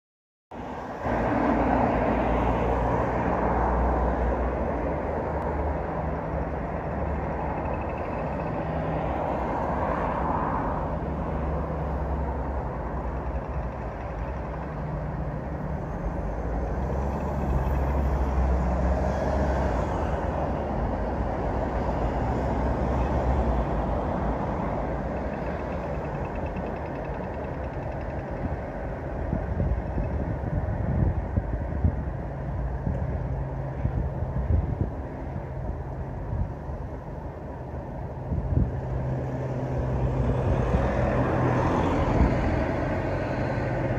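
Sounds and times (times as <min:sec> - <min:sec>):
road traffic rumble: 0:00.5 - 0:43.9.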